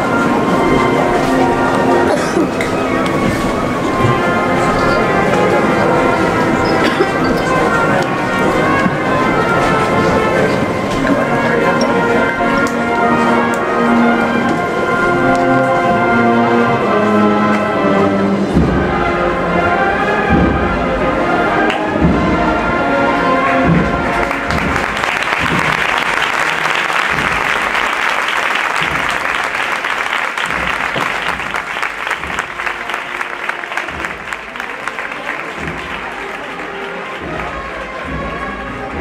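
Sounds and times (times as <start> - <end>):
drum beats: 0.0 - 13.1, 18.4 - 39.0
crowd applause: 0.0 - 17.6, 18.7 - 39.0
brass band playing a march: 0.0 - 39.0.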